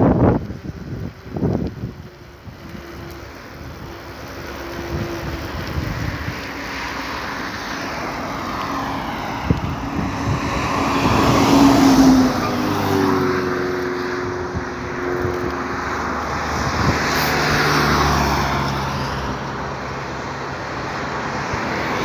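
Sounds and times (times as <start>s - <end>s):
motor vehicle passing: 0.2s - 22.0s.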